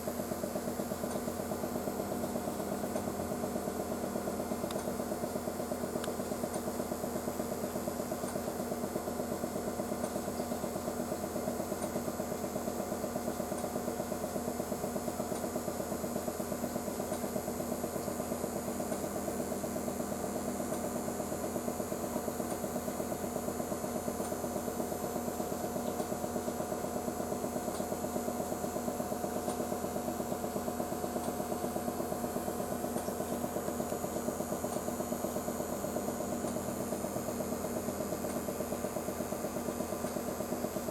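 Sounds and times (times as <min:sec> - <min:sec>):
machine humming with fast pulse: 0:00.0 - 0:40.9.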